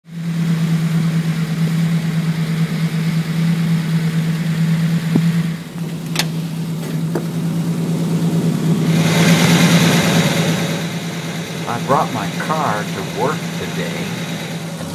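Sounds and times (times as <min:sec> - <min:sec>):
car engine idling: 0:00.1 - 0:14.9.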